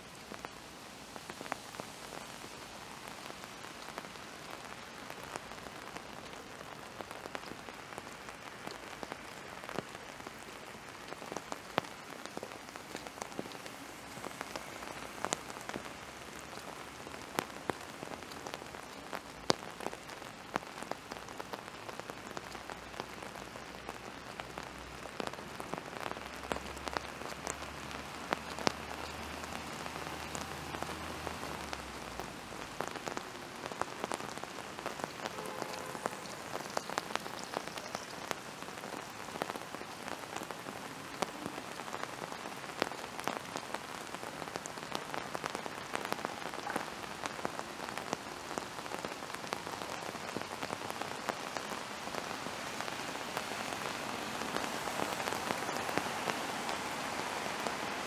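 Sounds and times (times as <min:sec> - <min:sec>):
steady rain falling: 0:00.0 - 0:58.0
raindrops tapping: 0:00.1 - 0:58.0.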